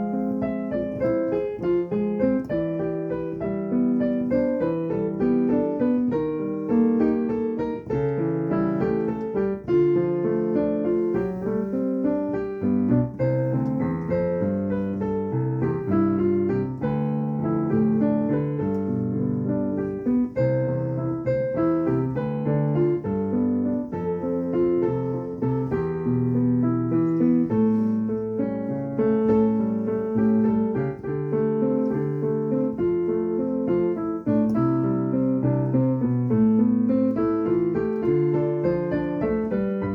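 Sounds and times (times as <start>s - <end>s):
solo piano music: 0.0s - 39.9s.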